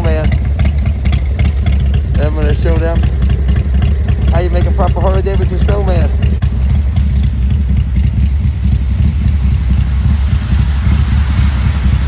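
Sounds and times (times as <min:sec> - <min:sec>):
low vehicle engine rumble: 0:00.0 - 0:12.0.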